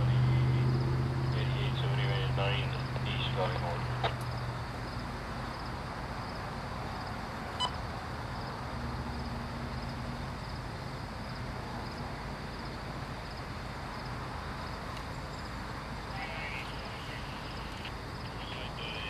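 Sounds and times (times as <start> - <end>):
distant locomotives rumbling: 0.0 - 19.0.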